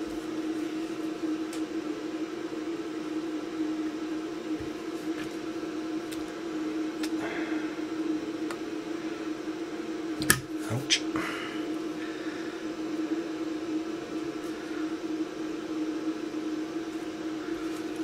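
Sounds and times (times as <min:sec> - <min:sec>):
bench equipment hum: 0:00.0 - 0:18.0.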